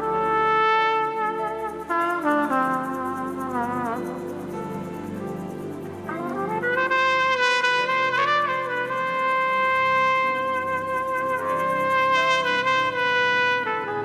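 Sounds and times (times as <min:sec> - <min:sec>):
soft low backing music: 0:00.0 - 0:14.0
solo trumpet slow melody: 0:00.0 - 0:14.0.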